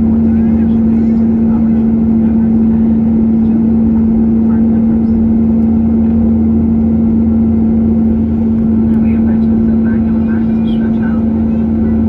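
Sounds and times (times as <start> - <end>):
airplane engines in flight: 0.0 - 12.0.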